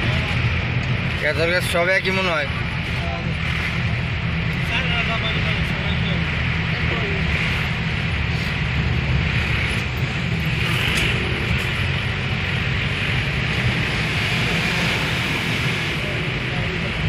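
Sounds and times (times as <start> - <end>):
car engine hum: 0.0 - 17.0
road noise inside car: 0.0 - 17.0.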